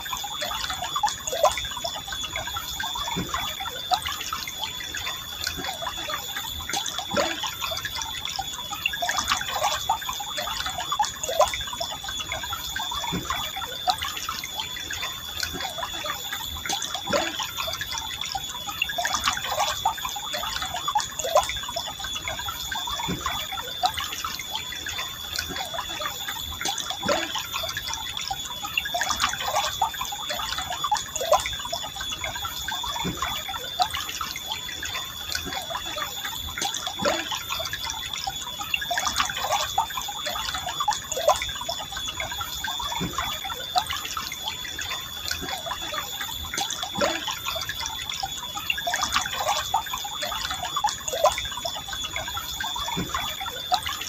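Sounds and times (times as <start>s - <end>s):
faint high-pitched tone: 0.0s - 54.0s
stream water trickling and gurgling: 0.0s - 54.0s.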